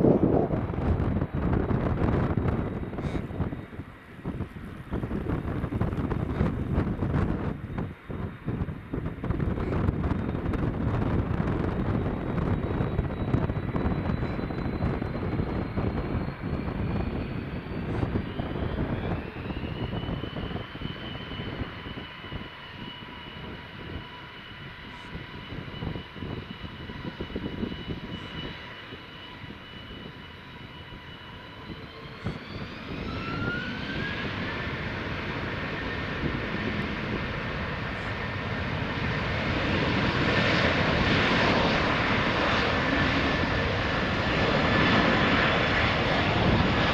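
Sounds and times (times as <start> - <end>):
jet engines spooling up: 0.0 - 46.9
wind buffeting microphone: 0.0 - 46.9.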